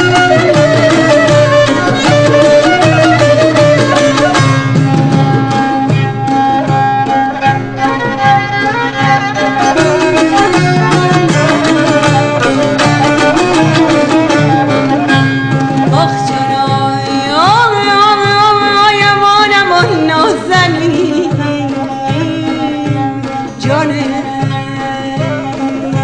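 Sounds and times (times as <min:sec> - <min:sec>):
folk melody with sliding notes: 0:00.0 - 0:26.0
hand drum beat: 0:00.0 - 0:26.0.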